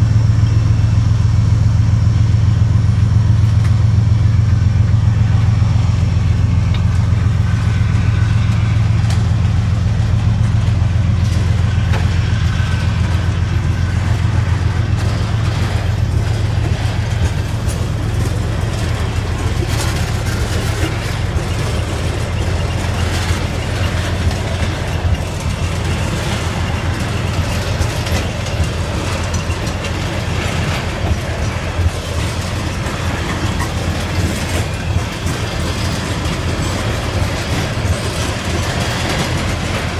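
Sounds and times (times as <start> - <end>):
freight train engine rumble: 0.0 - 39.9.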